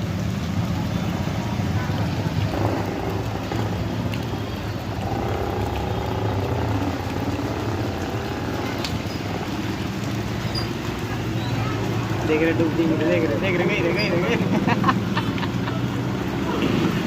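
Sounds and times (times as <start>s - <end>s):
traffic on a wet road: 0.0s - 17.0s.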